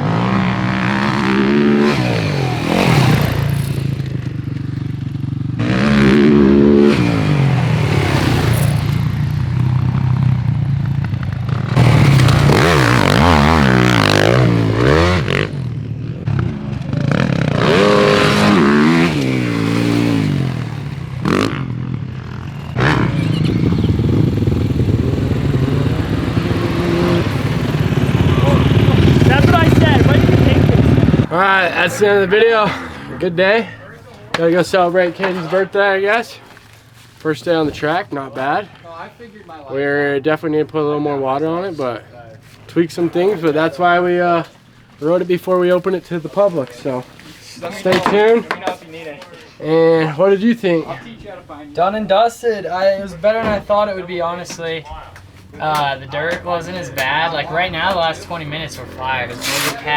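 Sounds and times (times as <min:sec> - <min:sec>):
pit bike engines revving: 0:00.0 - 0:59.9.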